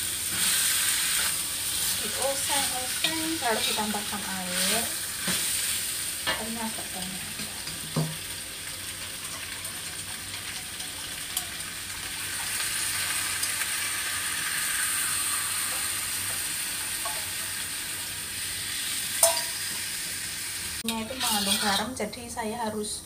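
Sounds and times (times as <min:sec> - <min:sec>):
food sizzling in a wok: 0:00.0 - 0:22.5.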